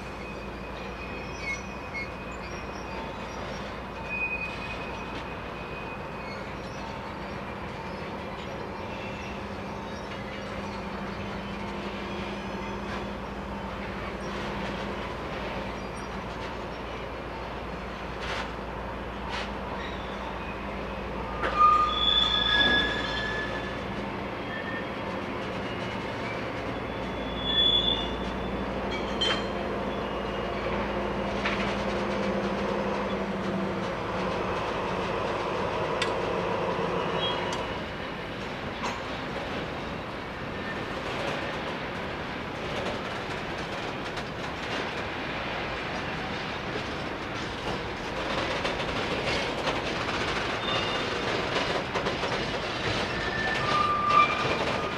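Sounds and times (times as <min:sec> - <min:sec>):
rail retarders squealing: 0:00.0 - 0:54.9.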